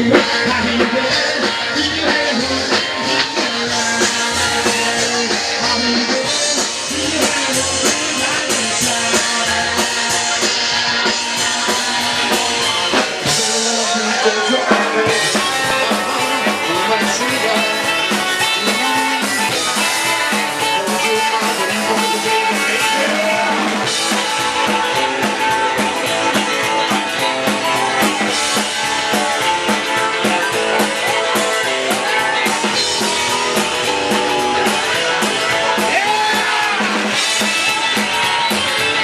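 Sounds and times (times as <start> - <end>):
drum kit: 0.0 - 39.0
guitar: 0.0 - 39.0
rock band playing live: 0.0 - 39.0.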